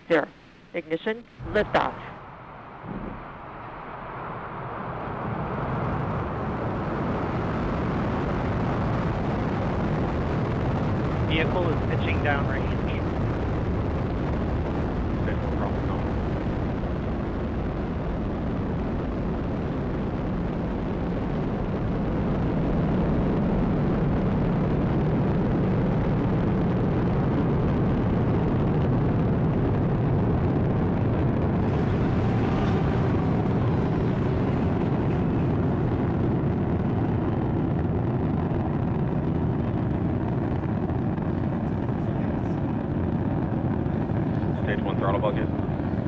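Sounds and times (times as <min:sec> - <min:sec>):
rocket engines deep rumble: 0:00.0 - 0:46.0.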